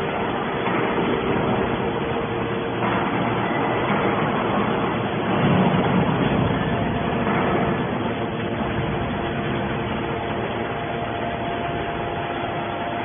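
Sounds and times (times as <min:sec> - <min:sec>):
hydraulic baler machine whine: 0:00.0 - 0:13.0.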